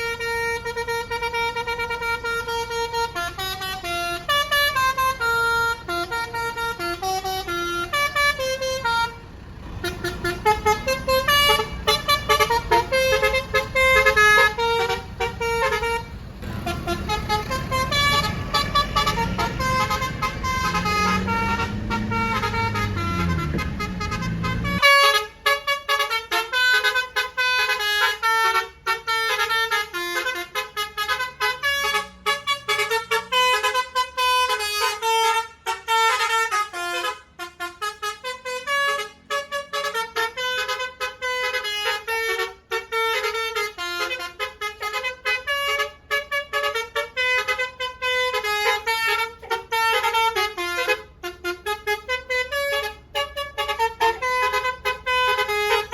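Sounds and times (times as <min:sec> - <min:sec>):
air horns playing fast melody: 0:00.0 - 0:55.9.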